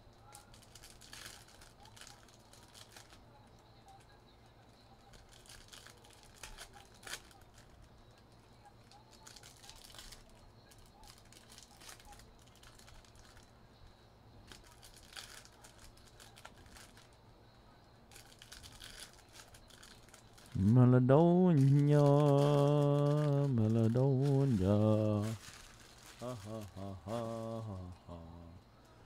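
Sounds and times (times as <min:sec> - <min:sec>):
foil wrappers crinkling and tearing: 0:00.3 - 0:04.1, 0:04.7 - 0:13.5, 0:14.4 - 0:17.2, 0:18.1 - 0:28.0.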